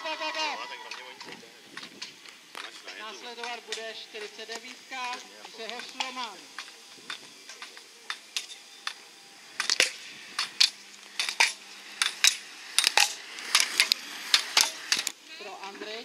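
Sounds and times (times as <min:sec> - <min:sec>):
ski poles clicking on asphalt: 0:00.0 - 0:16.0.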